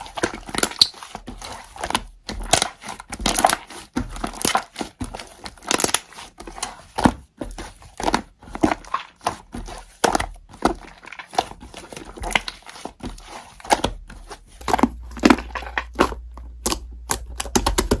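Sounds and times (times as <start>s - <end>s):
slime squelching and popping: 0.0s - 18.0s.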